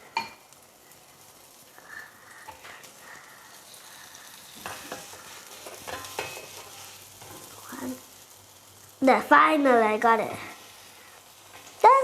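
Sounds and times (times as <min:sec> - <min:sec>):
batter sizzling in frying pan: 0:00.0 - 0:12.0.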